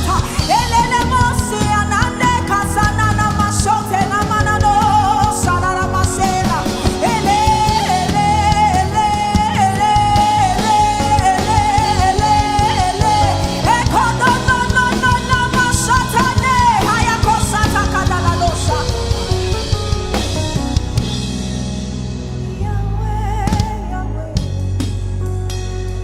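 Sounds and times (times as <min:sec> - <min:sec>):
gospel band music: 0:00.0 - 0:26.0.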